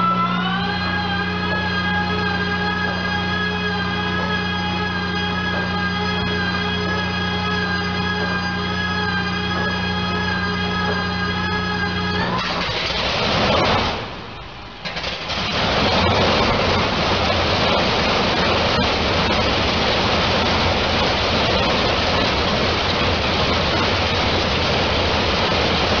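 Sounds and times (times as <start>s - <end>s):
radial piston engine roar: 0.0s - 26.0s.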